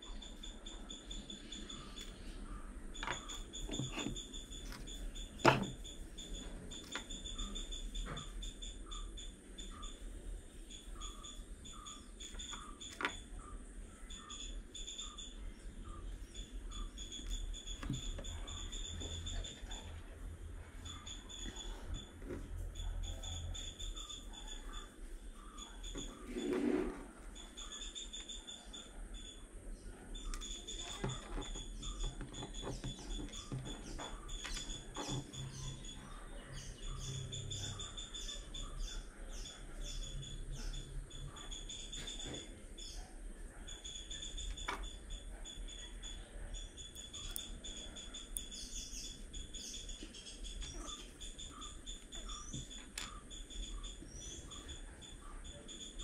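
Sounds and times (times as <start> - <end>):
insect chirping: 0.0 - 56.0.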